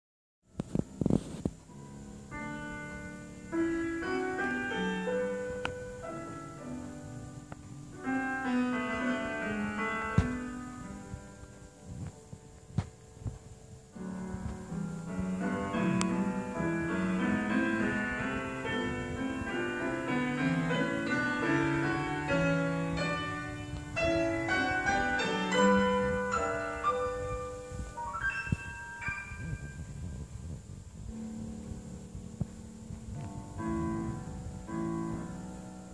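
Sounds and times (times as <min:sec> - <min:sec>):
piano music: 0:00.5 - 0:35.9.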